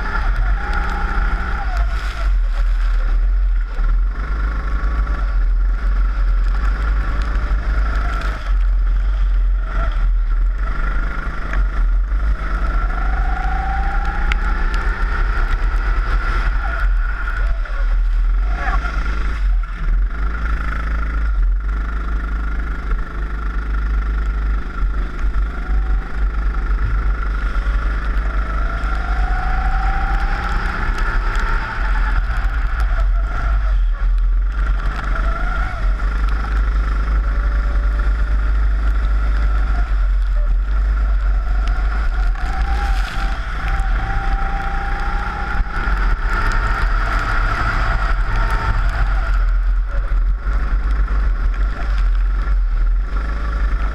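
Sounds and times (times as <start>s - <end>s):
kart engine revving: 0.0s - 53.9s
wind rumble on camera: 0.0s - 53.9s.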